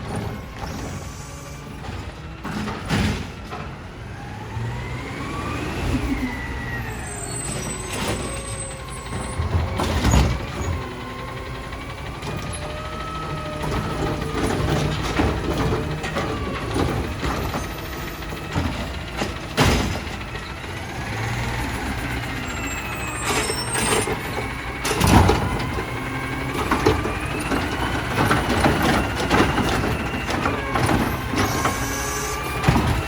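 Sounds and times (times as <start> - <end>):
garbage truck engine revving: 0.0 - 33.0.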